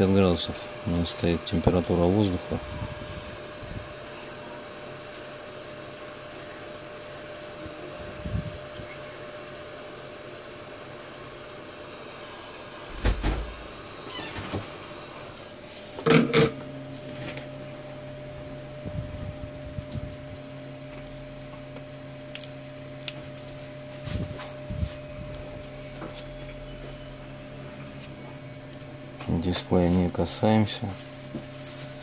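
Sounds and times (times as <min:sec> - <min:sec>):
hot-air blower hissing: 0:00.0 - 0:32.0.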